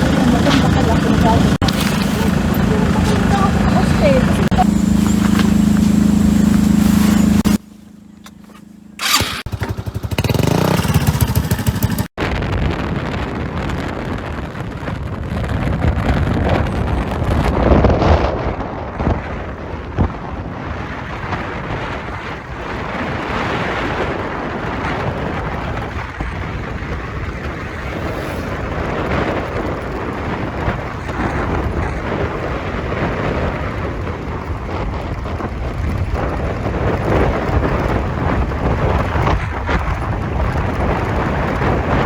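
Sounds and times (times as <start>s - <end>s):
wind rumbling on microphone: 0.0s - 42.0s.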